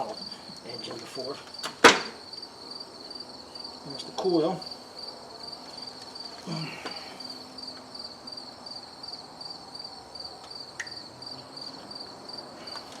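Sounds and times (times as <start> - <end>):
high insect chirping: 0.0 - 13.0.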